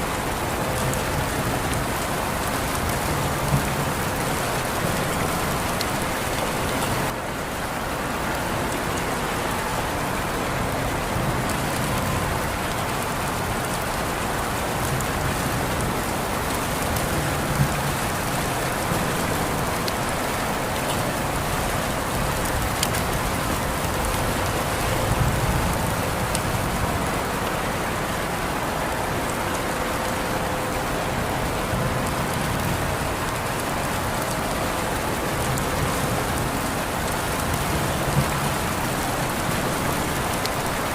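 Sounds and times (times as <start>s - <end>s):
rain drop ticks: 0.0s - 7.2s, 10.6s - 27.6s, 31.4s - 40.9s
steady rain falling: 0.0s - 40.9s.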